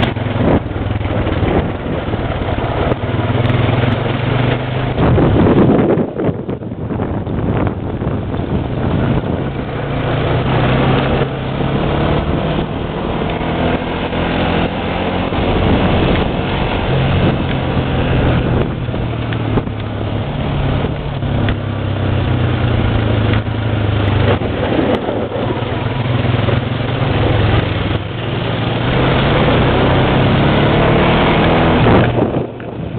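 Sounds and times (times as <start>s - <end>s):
atv engine revving: 0.0s - 32.9s
constant rushing noise: 0.0s - 32.9s.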